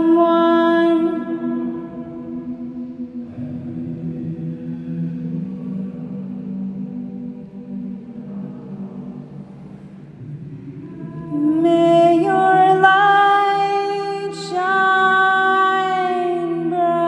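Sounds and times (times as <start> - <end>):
low steady drone: 0.0 - 16.9.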